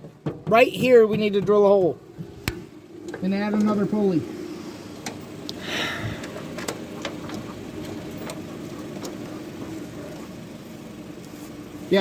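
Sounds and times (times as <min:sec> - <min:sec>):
lawn mower engine idling: 0:00.0 - 0:12.0.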